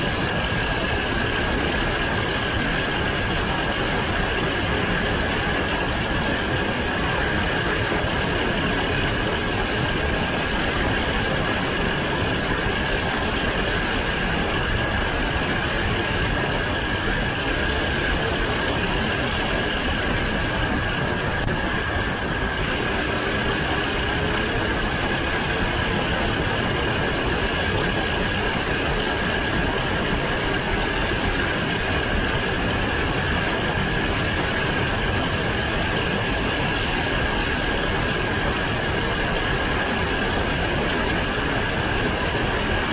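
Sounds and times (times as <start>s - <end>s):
kart engine droning: 0.0s - 42.9s
steady high whine: 0.0s - 42.9s.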